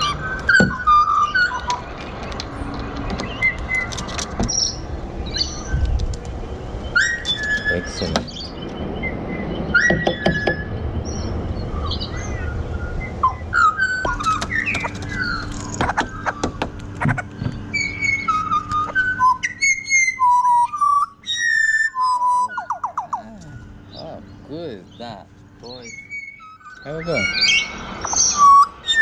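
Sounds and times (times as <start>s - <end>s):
birds singing fluting whistles: 0.0s - 2.6s, 3.2s - 29.0s.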